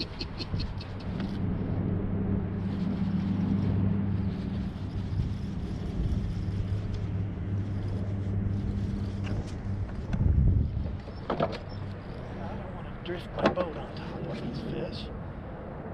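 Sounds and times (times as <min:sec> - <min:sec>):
boat motor humming: 0:00.0 - 0:13.6.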